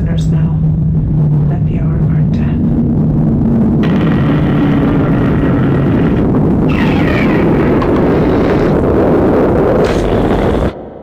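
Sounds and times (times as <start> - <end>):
loud steady low rumble: 0.0 - 11.0.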